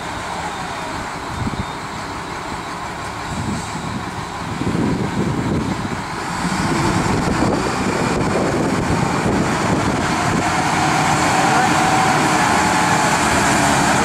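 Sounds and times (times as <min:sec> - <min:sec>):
forklift diesel engine running: 0:00.0 - 0:14.0.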